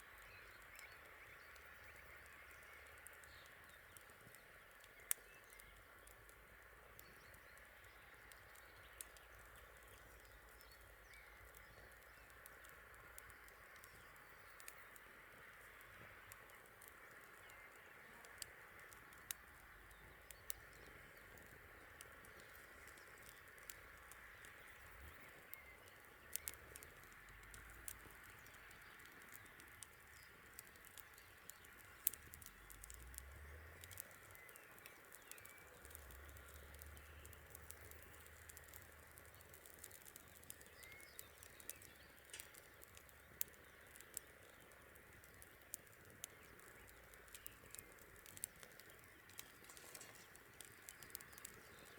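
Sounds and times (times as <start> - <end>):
campfire crackling: 0.0 - 51.9.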